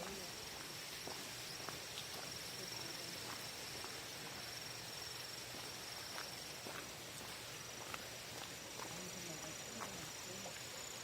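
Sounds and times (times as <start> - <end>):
insects trilling: 0.0 - 11.0
soft hiss: 0.0 - 11.0.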